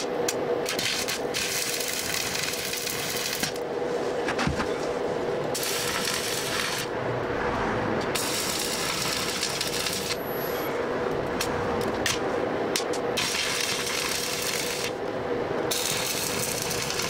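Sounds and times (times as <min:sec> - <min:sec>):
welding arc crackling: 0:00.0 - 0:03.7, 0:05.5 - 0:07.0, 0:08.0 - 0:17.0
steady hum: 0:00.0 - 0:17.0.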